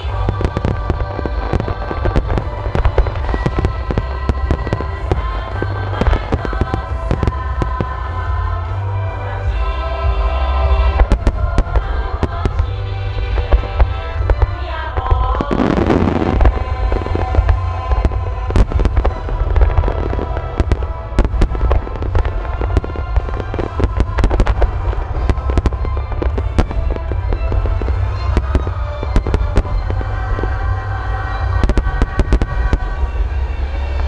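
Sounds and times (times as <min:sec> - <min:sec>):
fireworks bangs: 0:00.0 - 0:08.8, 0:09.5 - 0:34.0
deep rumble: 0:00.0 - 0:34.0
music playing: 0:00.0 - 0:34.0.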